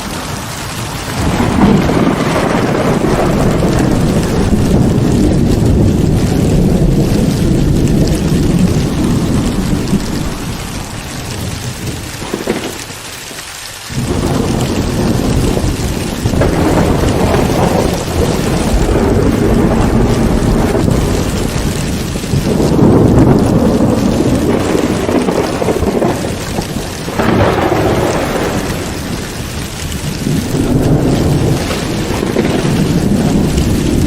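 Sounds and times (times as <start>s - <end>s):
heavy rain: 0.0s - 34.0s
rolling thunder: 0.0s - 34.0s.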